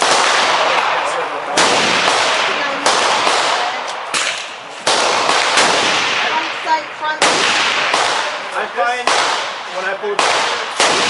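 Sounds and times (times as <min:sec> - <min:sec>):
rifle shots echoing: 0:00.0 - 0:11.0.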